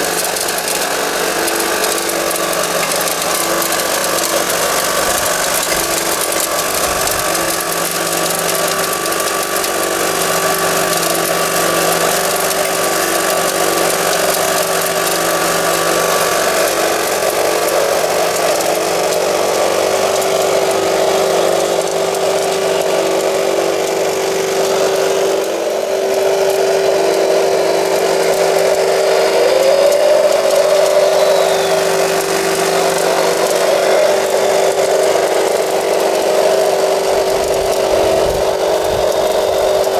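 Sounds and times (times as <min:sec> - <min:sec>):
electric motors whining: 0:00.0 - 0:39.9
rising whine of loader: 0:00.0 - 0:39.9
shaker screen: 0:00.0 - 0:39.9.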